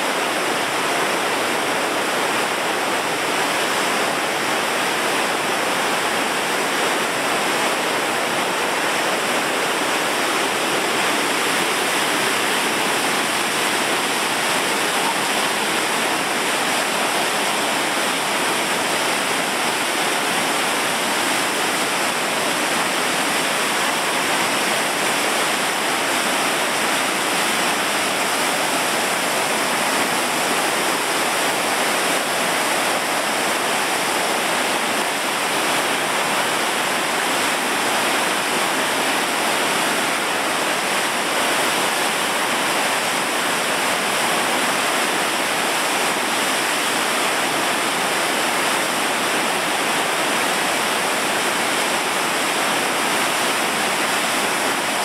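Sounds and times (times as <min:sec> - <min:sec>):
floodwater rushing through channel: 0:00.0 - 0:55.0.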